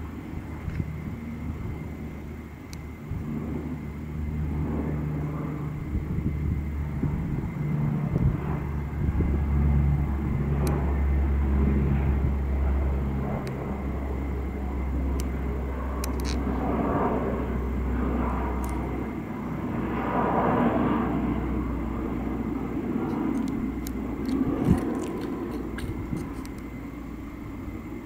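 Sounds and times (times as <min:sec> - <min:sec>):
aircraft engine rumble: 0:00.0 - 0:28.0.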